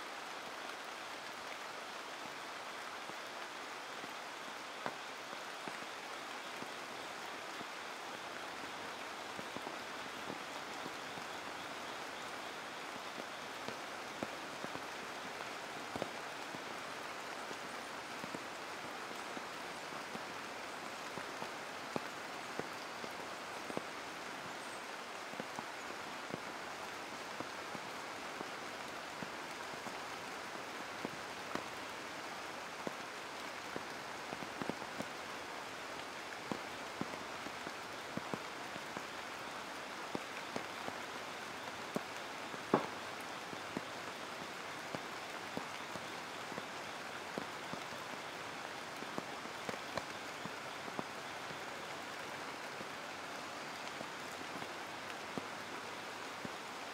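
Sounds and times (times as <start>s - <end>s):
rain hissing on leaves: 0.0s - 56.9s
close raindrops landing: 0.1s - 56.9s.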